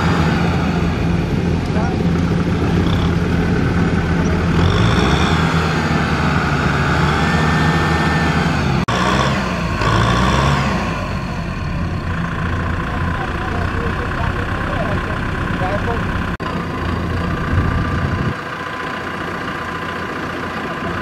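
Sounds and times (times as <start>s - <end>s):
tractor engine straining under load: 0.0s - 21.0s.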